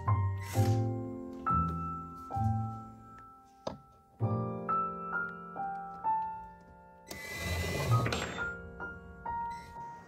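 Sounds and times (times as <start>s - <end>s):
slow piano music: 0.0s - 10.0s.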